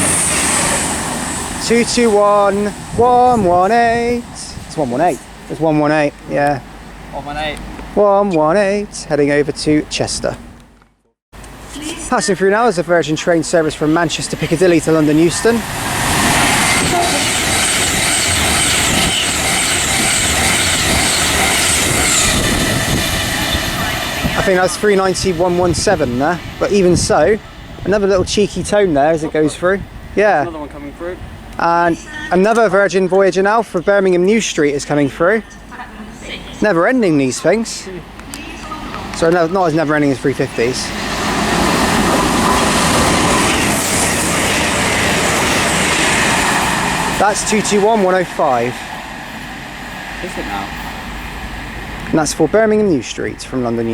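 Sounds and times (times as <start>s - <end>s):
electric train passing at speed: 0.0s - 10.8s, 11.4s - 34.6s, 35.5s - 53.9s
wheels rushing on rails: 0.0s - 33.6s, 34.2s - 53.9s.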